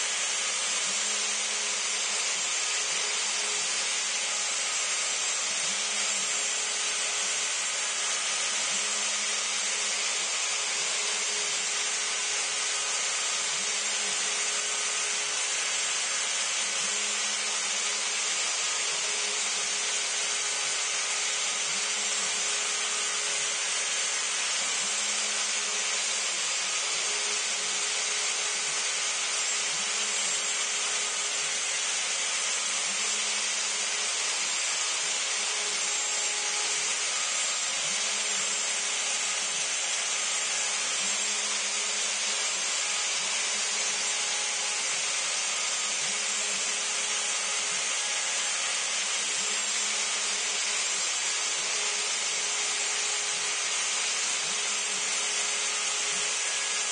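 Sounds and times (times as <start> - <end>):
router cutting wood: 0.0 - 56.9.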